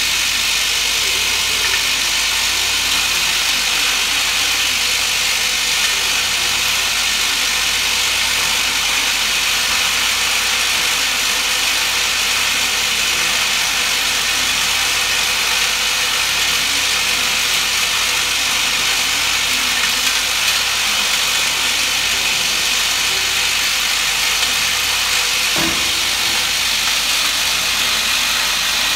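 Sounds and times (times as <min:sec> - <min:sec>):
vibratory feeder hum: 0:00.0 - 0:28.9.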